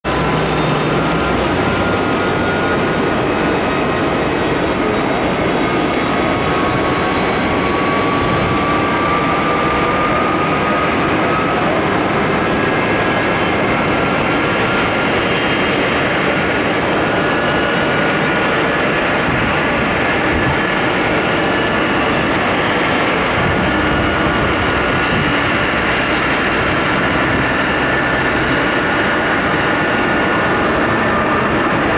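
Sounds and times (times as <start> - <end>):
jet engines at takeoff thrust: 0.0 - 31.9
faint engine whine rising in pitch: 0.1 - 31.9.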